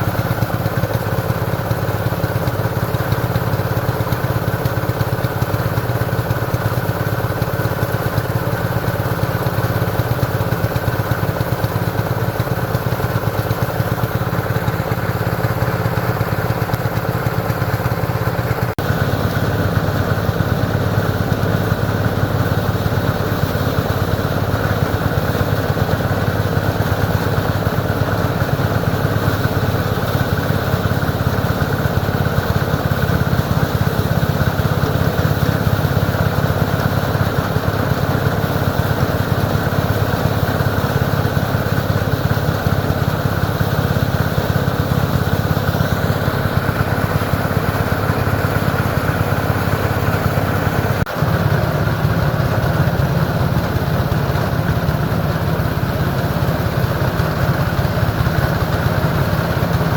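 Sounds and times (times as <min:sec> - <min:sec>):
engine knock: 0:00.0 - 0:59.9
engine running steadily: 0:00.0 - 0:59.9.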